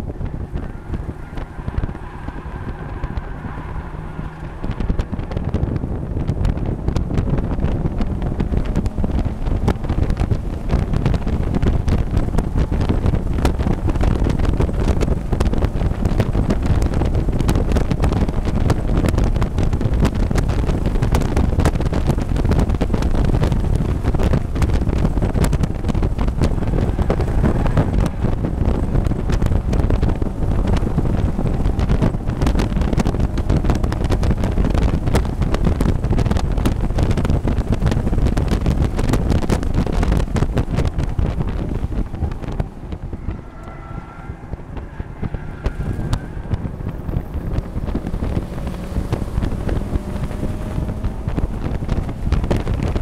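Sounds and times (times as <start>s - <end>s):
race car engine drone: 0.0s - 53.0s.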